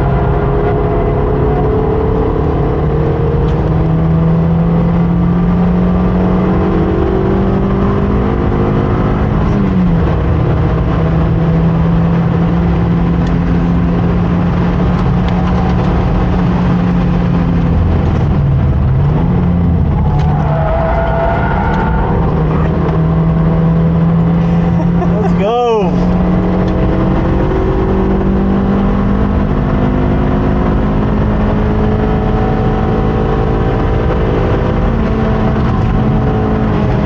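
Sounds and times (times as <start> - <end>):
road and wind noise: 0.0 - 37.0.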